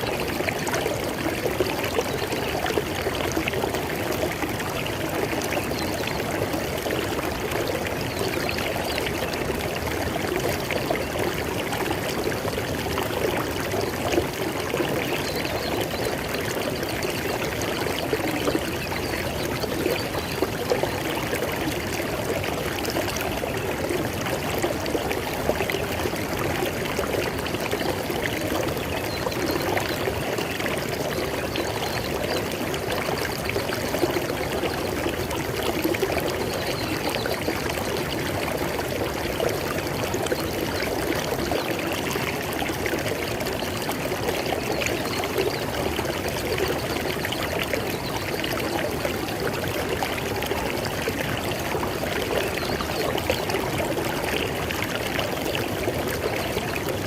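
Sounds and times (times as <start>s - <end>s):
river flowing over stones: 0.0s - 57.0s.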